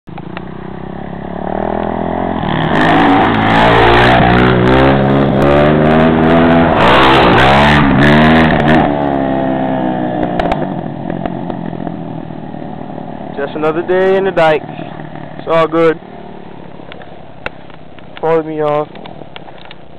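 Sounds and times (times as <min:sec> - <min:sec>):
dirt bike engine revving: 0:00.2 - 0:19.3.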